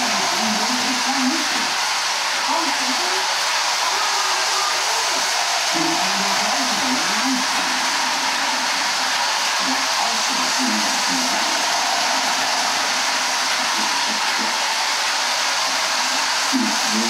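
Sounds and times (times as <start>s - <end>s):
faint muffled voices: 0.0s - 17.0s
toy train whirring: 0.0s - 17.0s.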